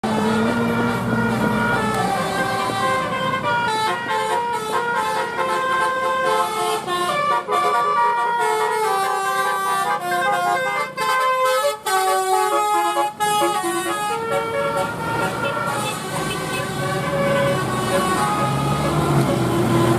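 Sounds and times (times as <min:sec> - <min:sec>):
musical bus horn melody: 0:00.0 - 0:19.9.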